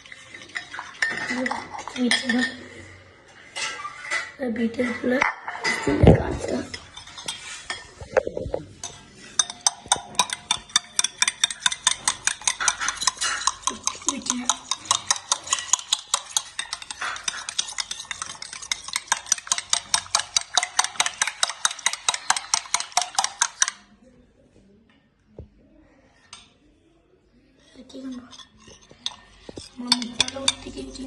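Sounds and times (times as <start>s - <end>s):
spoon beating egg in a bowl: 0.0s - 2.7s, 3.6s - 24.0s, 27.6s - 31.0s.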